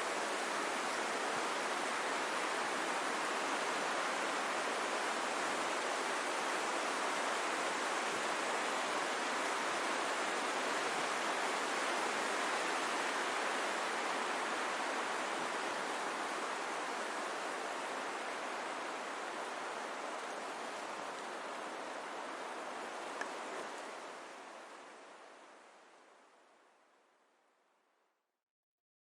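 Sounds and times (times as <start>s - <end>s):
wind rushing through trees: 0.0s - 26.9s.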